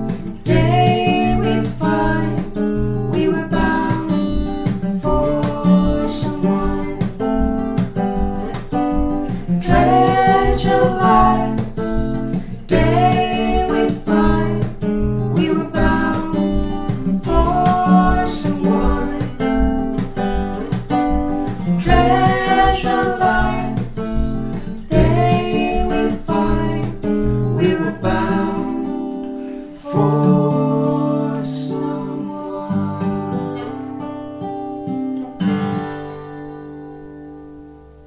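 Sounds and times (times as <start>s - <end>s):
man and woman singing: 0.0s - 7.6s, 8.4s - 34.0s
strummed acoustic guitar: 0.0s - 38.0s.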